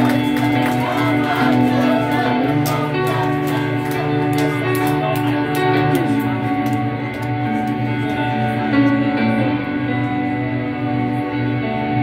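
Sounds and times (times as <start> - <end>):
bass guitar: 0.0 - 12.0
electric guitars: 0.0 - 12.0.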